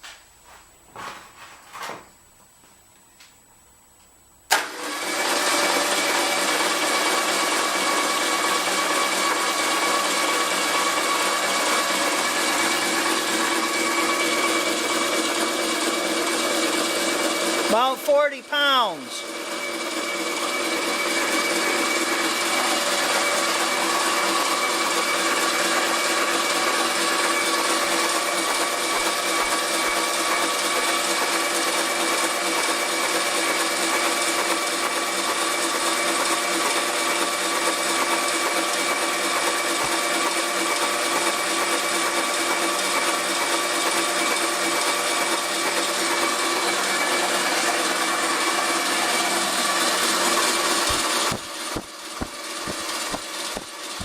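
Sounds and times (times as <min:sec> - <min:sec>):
electric motor whine: 0:04.6 - 0:17.7, 0:19.2 - 0:43.2, 0:44.1 - 0:54.0.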